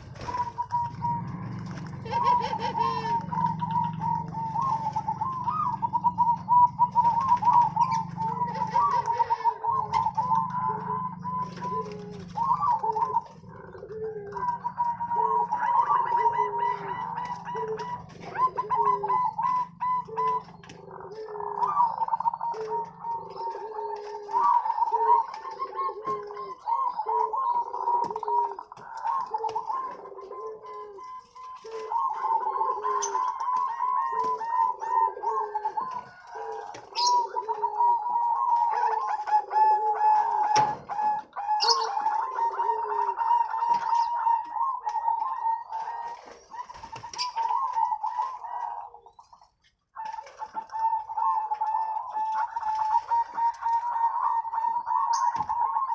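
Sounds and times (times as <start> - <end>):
doves cooing in chorus: 0.0 - 55.9.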